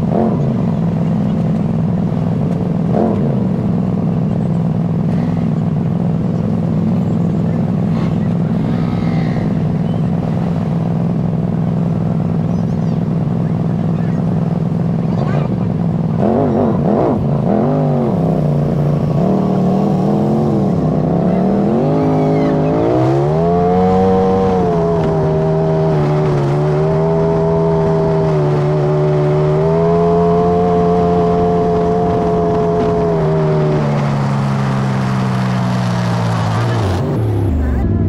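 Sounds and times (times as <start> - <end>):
engine accelerating: 0.0 - 38.0.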